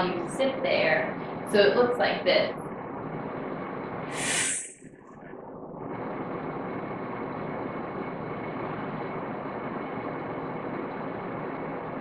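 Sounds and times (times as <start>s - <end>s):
steady room machinery hum: 0.0s - 12.0s.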